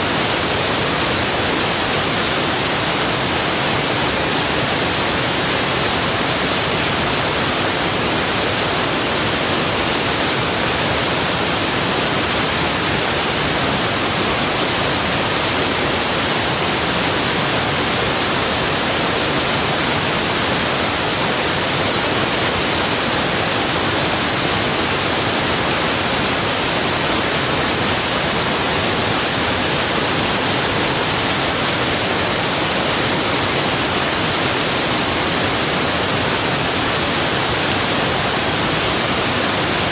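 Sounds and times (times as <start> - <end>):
rushing water hiss: 0.0 - 39.9.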